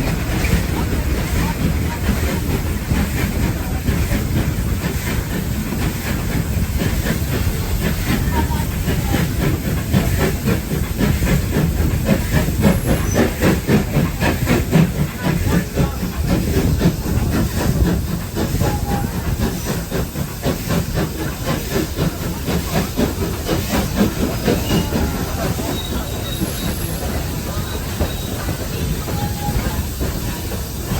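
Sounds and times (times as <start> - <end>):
train running: 0.0 - 30.9.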